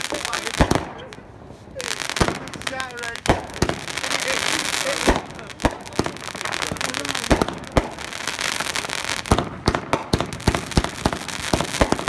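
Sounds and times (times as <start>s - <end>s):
firework bangs and pops: 0.0s - 12.0s
fireworks crackling hiss: 0.0s - 12.0s.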